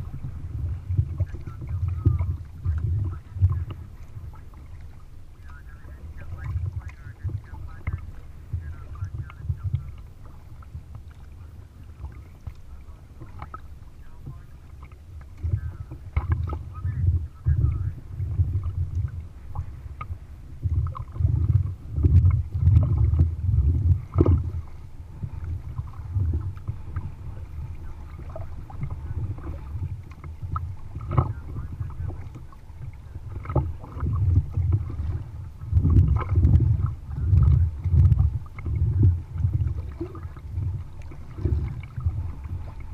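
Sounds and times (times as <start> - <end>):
low rumble of wind and chop: 0.0 - 42.9
paddle splashing and dripping: 0.0 - 42.9.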